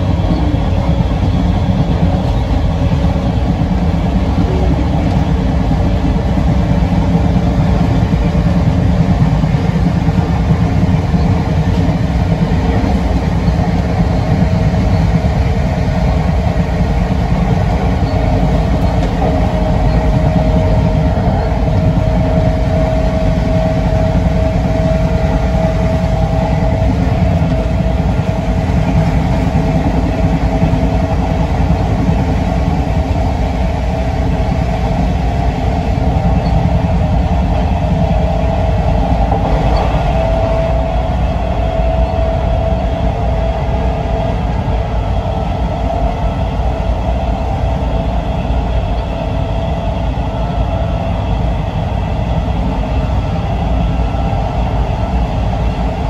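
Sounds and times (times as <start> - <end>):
steady whine: 0.0 - 56.0
train equipment hum and rumble: 0.0 - 56.0.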